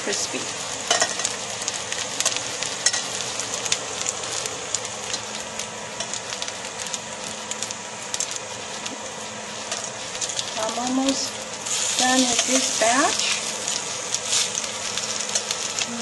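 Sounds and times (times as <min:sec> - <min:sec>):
fish cakes sizzling in oil: 0:00.0 - 0:16.0.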